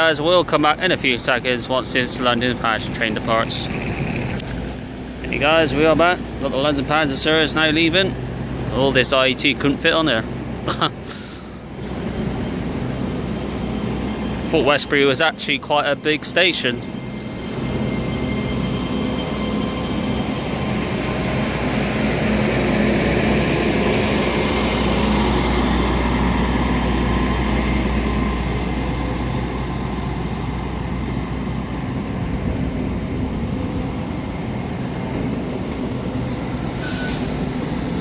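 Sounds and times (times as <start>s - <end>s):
train coaches rumbling past: 0.0s - 38.0s
train engines running: 0.0s - 38.0s.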